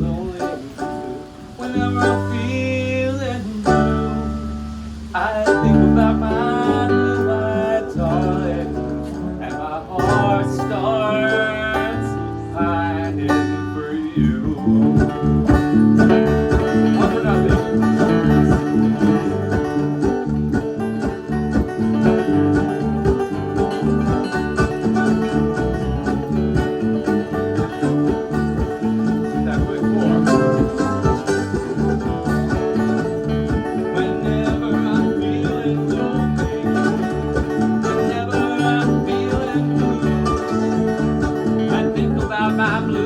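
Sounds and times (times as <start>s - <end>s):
banjo and guitar plucking: 0.0s - 43.0s
bluegrass band playing: 0.0s - 43.0s.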